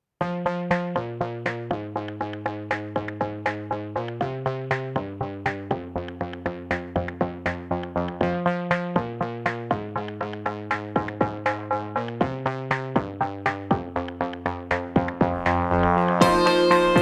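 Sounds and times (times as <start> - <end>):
synthesizer chords: 0.2 - 17.0
steady beat of sharp hits: 2.4 - 17.0.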